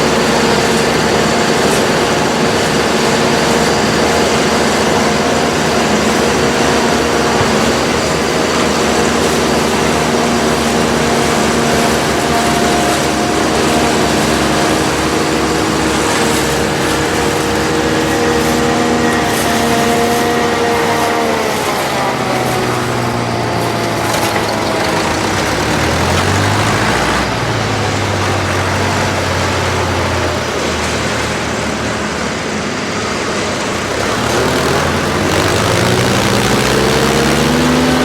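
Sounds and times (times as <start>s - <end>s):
steady machine whining tones: 0.0s - 38.0s
tractor engine and harvester noise: 0.0s - 38.0s.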